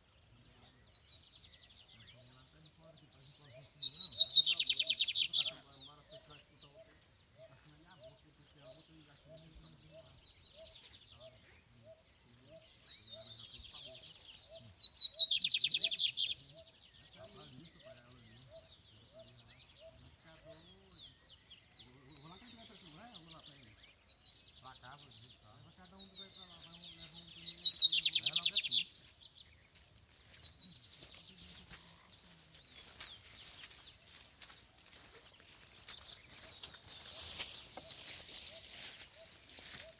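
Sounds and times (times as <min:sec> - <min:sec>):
bird singing with fast trill: 0:00.0 - 0:39.9.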